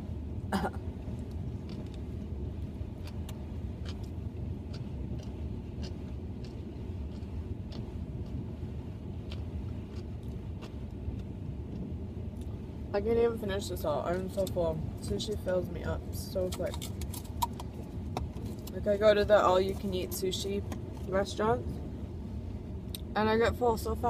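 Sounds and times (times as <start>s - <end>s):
car cabin rumble: 0.0s - 22.2s.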